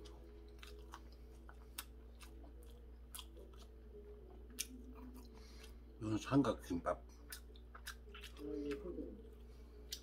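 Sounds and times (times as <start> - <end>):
mouth chewing with wet smacking: 0.0 - 5.8, 7.1 - 10.0.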